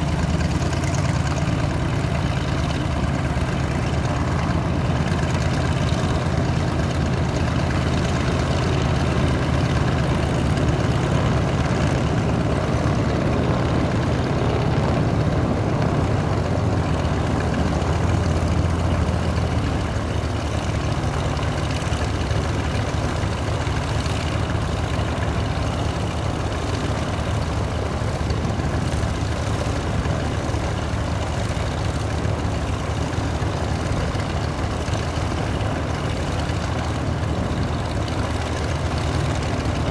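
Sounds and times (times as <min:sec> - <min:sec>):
twin propeller aircraft engines droning: 0:00.0 - 0:39.9.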